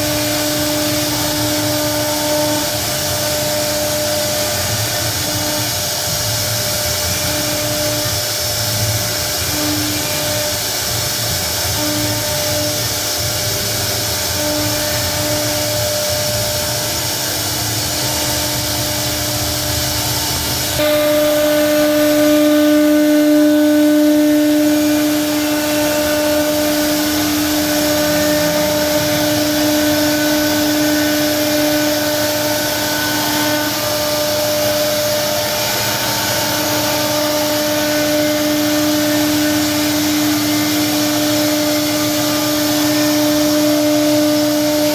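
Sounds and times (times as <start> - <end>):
router spindle cutting board: 0.0 - 44.9.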